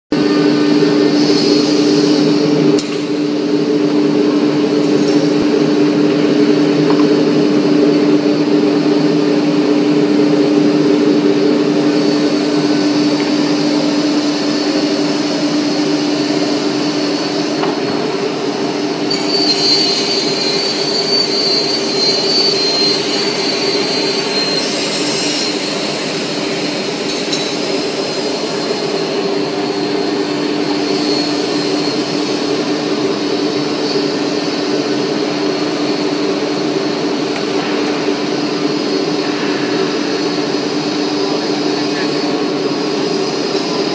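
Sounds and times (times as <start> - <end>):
saw whine and hiss: 0.2 - 43.9.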